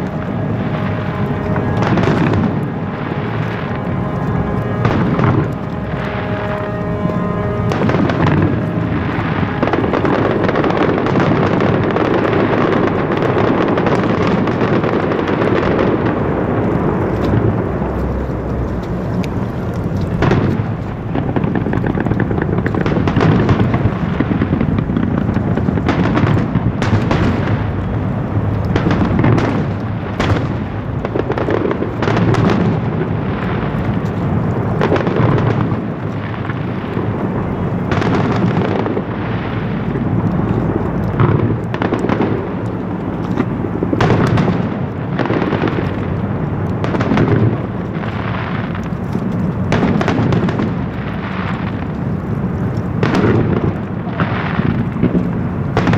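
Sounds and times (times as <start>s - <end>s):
sharp firework bangs: 0.0s - 16.5s, 20.1s - 34.1s, 34.7s - 42.7s, 43.3s - 46.2s, 46.8s - 51.9s, 53.0s - 55.9s
fireworks exploding and crackling: 0.0s - 55.9s.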